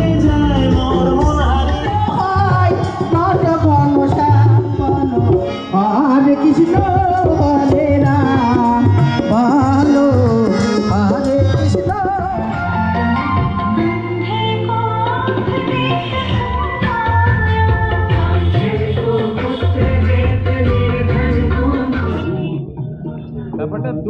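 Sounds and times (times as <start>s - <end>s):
woman singing into microphone: 0.0s - 23.4s.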